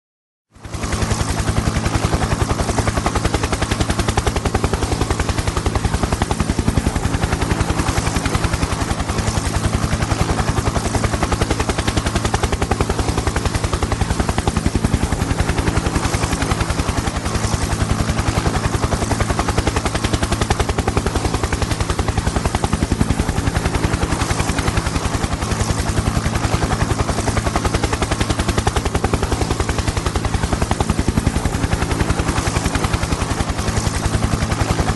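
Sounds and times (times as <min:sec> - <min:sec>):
helicopter rotor chopping: 0:00.6 - 0:34.9.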